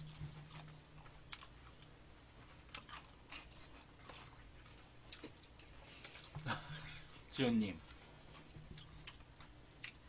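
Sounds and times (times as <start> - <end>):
chewing fried chicken: 0.0 - 10.0.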